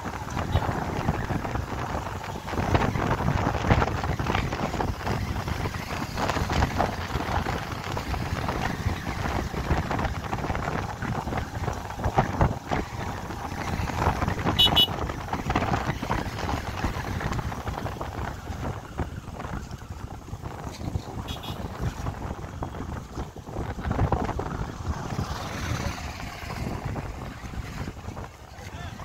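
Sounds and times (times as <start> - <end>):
vehicle road noise: 0.0 - 29.0
wind buffeting microphone: 0.0 - 29.0.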